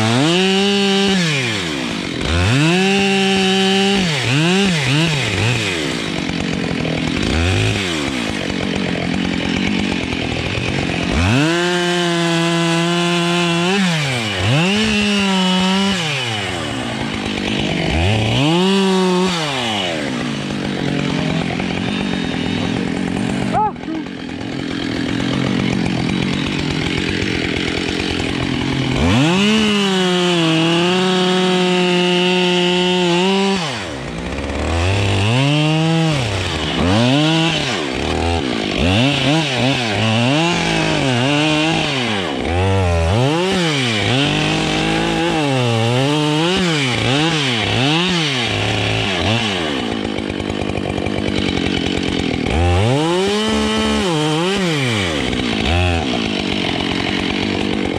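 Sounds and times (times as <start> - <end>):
chainsaw idling and revving: 0.0 - 57.9.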